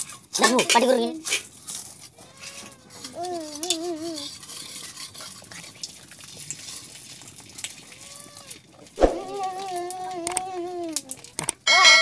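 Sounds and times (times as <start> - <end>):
chewing and crunching biscuit: 0.0 - 11.7.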